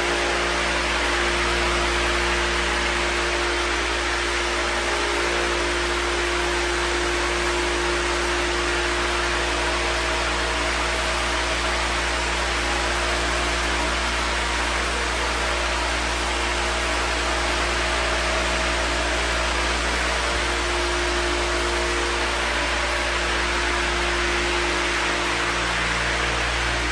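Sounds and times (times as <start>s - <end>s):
constant hum: 0.0s - 26.9s
floor sander hissing: 0.0s - 26.9s.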